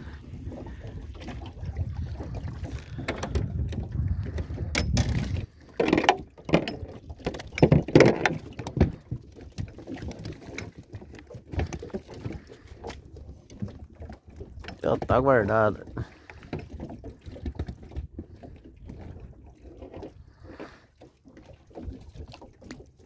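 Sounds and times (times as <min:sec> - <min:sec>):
wind rumbling on microphone: 0:00.0 - 0:20.8
knocks and clatter in metal boat: 0:00.0 - 0:23.0.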